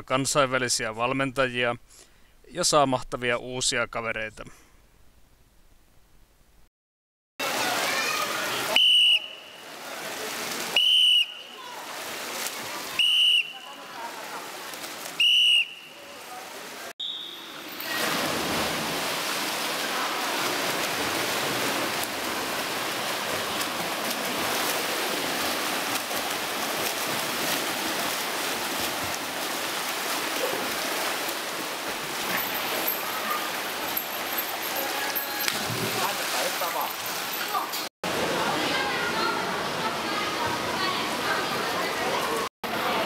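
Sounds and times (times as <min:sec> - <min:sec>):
swimmers splashing in pool: 0:07.4 - 0:43.0.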